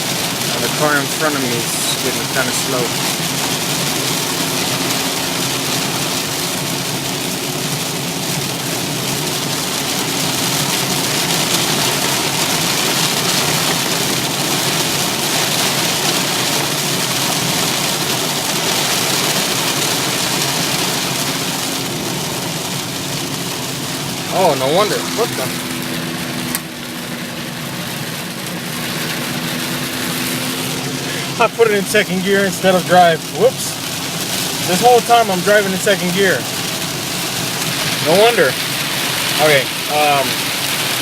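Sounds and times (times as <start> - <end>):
engine hum: 0.0 - 41.0
heavy rain on a car: 0.0 - 41.0
tyres on wet road: 0.0 - 41.0.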